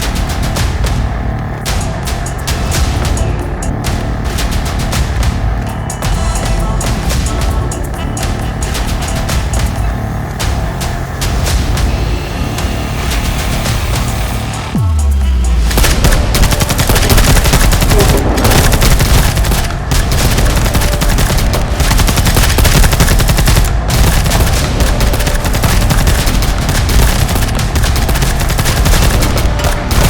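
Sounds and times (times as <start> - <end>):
rapid gunfire: 0.0 - 12.0, 15.6 - 30.0
background music: 0.0 - 30.0.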